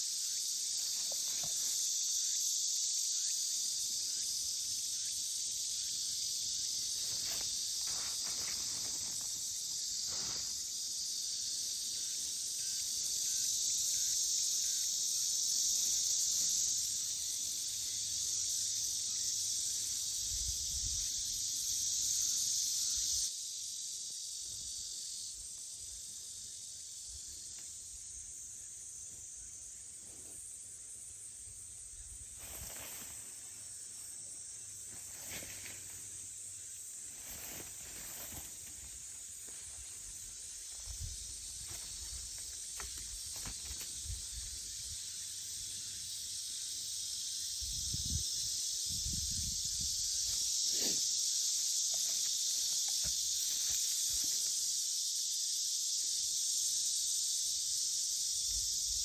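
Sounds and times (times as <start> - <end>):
insect chorus chirring: 0.0 - 59.0.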